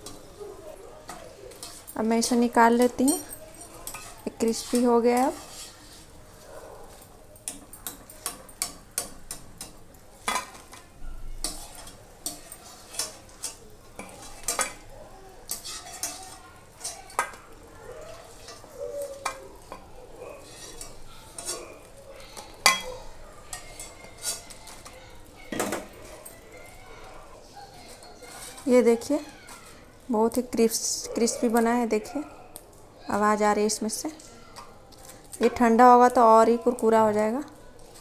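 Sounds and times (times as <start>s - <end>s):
faint oil sizzle: 0.0s - 30.9s.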